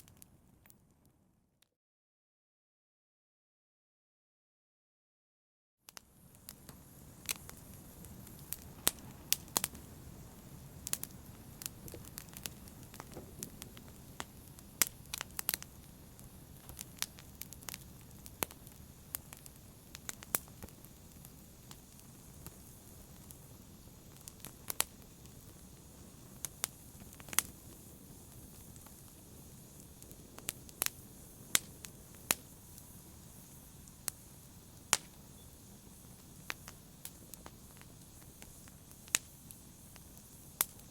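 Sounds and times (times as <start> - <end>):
wood fire crackling: 5.9 - 40.9
low rush of flames: 6.2 - 40.9.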